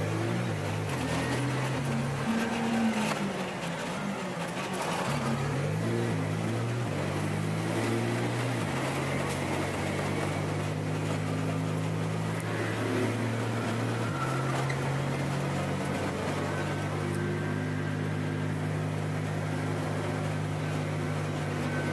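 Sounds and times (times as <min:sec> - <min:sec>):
road noise: 0:00.0 - 0:21.9
vehicle engine running: 0:00.0 - 0:21.9.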